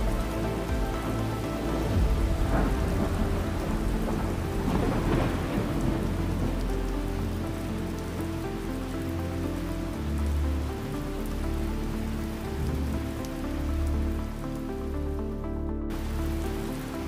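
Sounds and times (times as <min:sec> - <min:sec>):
rumbling hissing noise: 0:00.0 - 0:17.0
soft music with held notes: 0:00.0 - 0:17.0.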